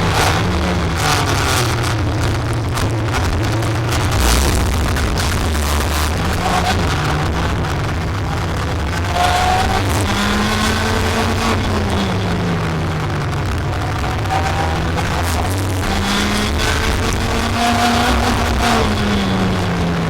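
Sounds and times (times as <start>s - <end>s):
kart engine revving: 0.0s - 20.0s
steady rushing noise: 0.0s - 20.0s.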